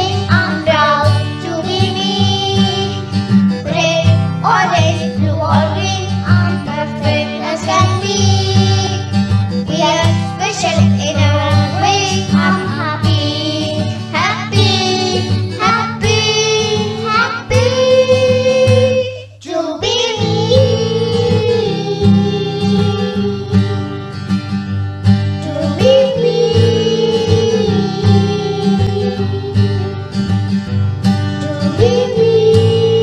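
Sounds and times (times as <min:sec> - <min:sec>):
children's choir singing: 0:00.0 - 0:24.2, 0:25.4 - 0:30.2, 0:31.4 - 0:33.0
guitar accompaniment: 0:00.0 - 0:33.0.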